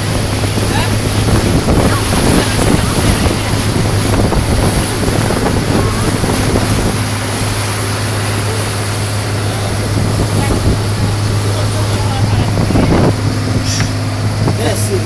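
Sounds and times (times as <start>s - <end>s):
wind noise: 0.0s - 14.8s
motorboat engine humming: 0.0s - 15.0s
water rushing: 0.0s - 15.0s.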